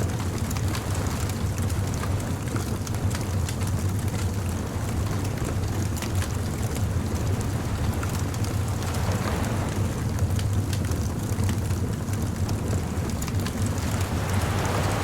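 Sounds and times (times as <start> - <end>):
low rumble of surf: 0.0 - 15.0
bonfire crackling and popping: 0.2 - 15.0.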